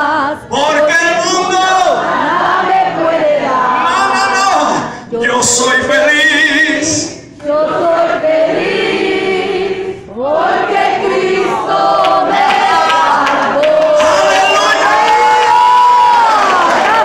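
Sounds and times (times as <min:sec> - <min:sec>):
congregation singing: 0:00.0 - 0:17.0.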